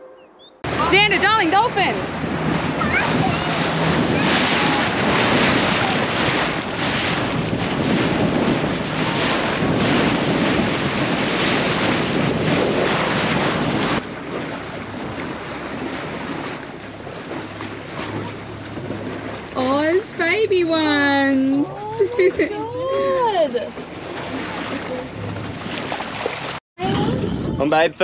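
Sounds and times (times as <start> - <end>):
water rushing past boat hull: 0.0 - 27.9
wind buffeting microphone: 0.0 - 28.0.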